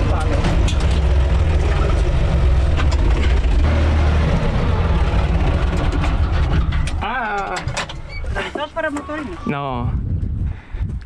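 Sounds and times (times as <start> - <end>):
tractor diesel engine rumble: 0.0 - 9.4.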